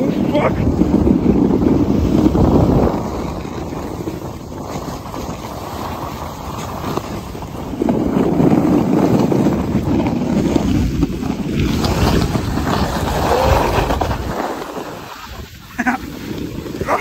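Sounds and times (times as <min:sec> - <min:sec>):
sled scraping on snow: 0:00.0 - 0:17.0
wind buffeting microphone: 0:00.0 - 0:17.0.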